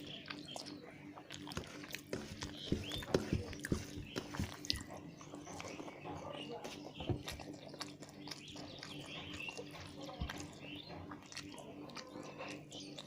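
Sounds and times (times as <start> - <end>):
wet chewing and mouth sounds: 0.0 - 13.0.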